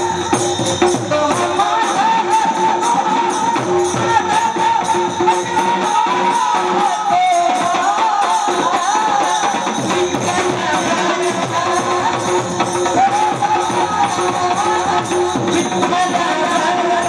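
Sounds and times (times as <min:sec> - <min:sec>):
jingling hand percussion: 0:00.0 - 0:17.0
woman singing: 0:00.0 - 0:17.0.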